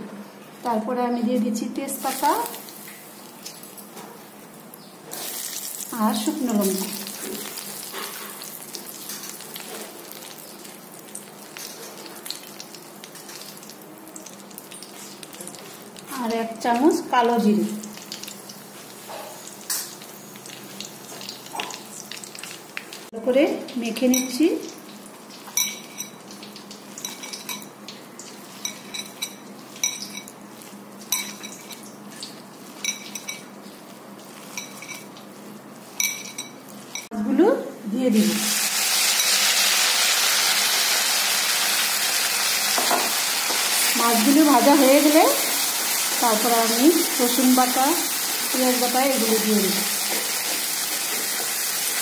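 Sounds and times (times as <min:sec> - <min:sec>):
spices sizzling in hot oil: 0:01.5 - 0:37.1, 0:38.0 - 0:52.0.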